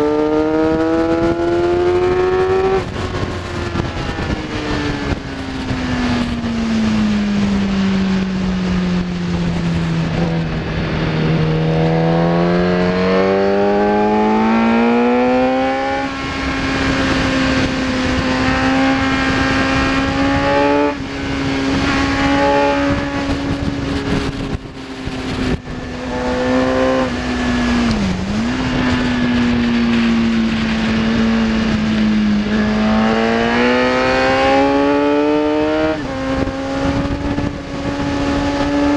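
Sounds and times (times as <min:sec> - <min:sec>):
motorcycle engine at speed: 0:00.0 - 0:38.9
wind rush: 0:00.0 - 0:38.9.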